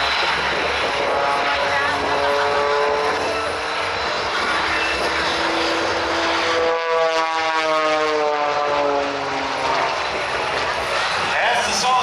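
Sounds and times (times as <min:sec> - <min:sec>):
propeller airplane buzzing: 0:00.0 - 0:12.0.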